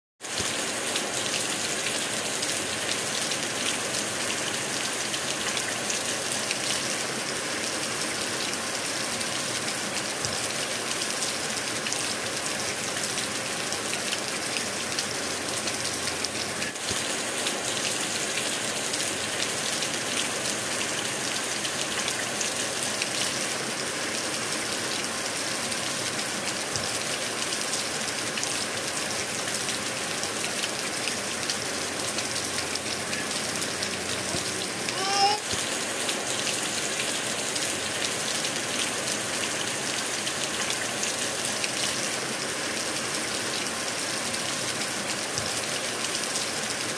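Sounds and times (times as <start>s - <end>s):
rain falling: 0.2s - 46.9s.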